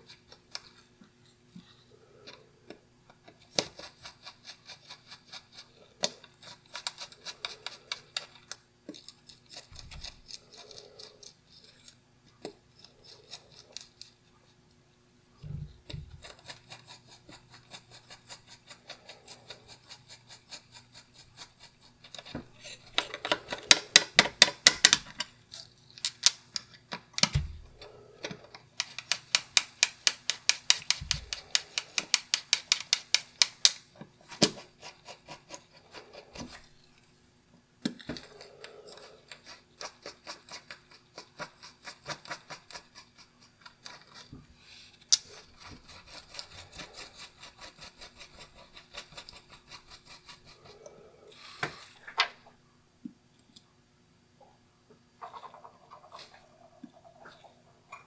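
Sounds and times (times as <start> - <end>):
brush scrubbing small parts: 0.0 - 14.7, 15.4 - 24.7, 27.7 - 37.1, 37.9 - 52.2.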